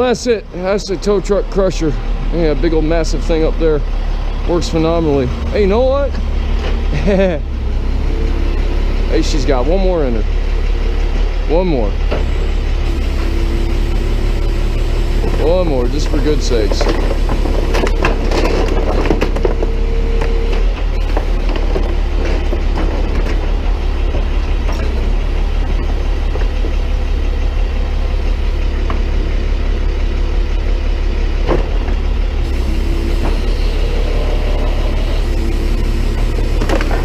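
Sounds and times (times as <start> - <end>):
high whine: 0.0 - 37.0
truck engine running: 0.0 - 37.0.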